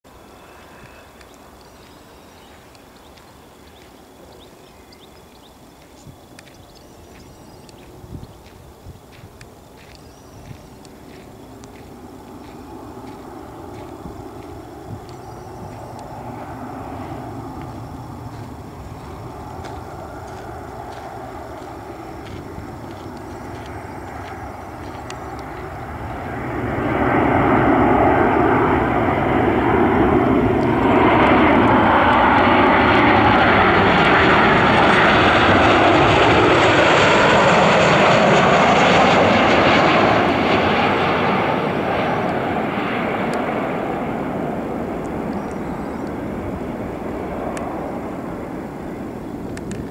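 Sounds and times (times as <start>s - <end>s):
jet airliner passing overhead: 0.1s - 49.9s.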